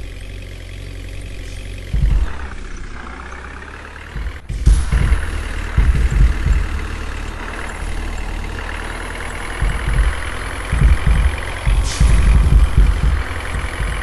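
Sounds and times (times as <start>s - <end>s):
heavy truck engine rumbling: 0.0s - 14.0s.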